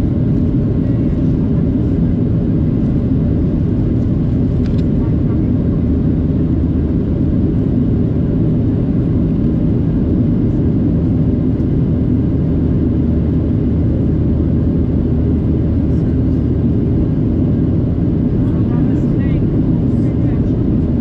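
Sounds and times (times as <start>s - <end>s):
jet engine cabin roar: 0.0s - 21.0s.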